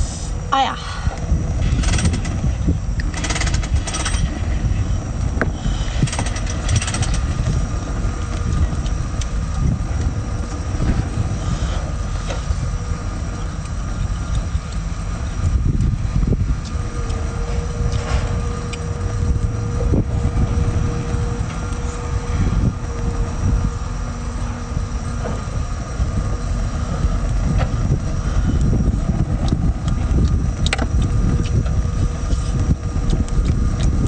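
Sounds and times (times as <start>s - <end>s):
faint hum: 0.0s - 34.0s
low rumble: 0.0s - 34.0s.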